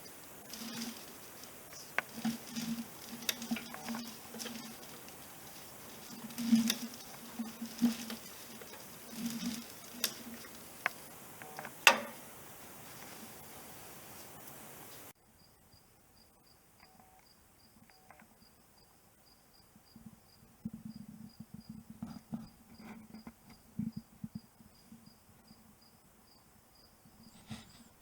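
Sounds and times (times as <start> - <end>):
insect chirping: 0.0 - 28.0.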